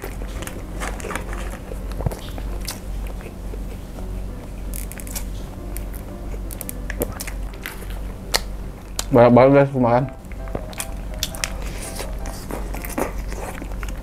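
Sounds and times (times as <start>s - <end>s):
close chewing with wet mouth sounds: 0.0s - 9.2s, 10.1s - 14.0s.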